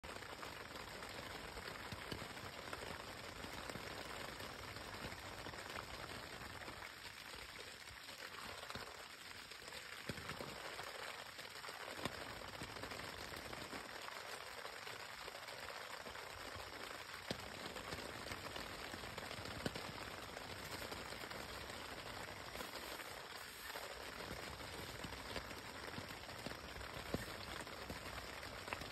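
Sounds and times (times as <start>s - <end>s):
rain hissing on tent fabric: 0.0s - 28.9s.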